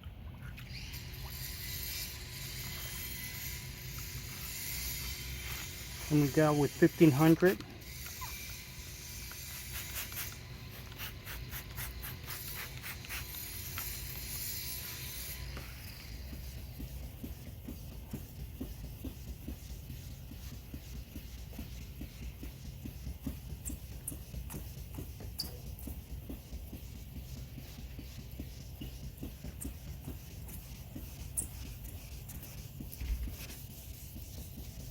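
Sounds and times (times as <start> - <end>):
sandpaper rubbing on plastic: 1.2 - 34.9.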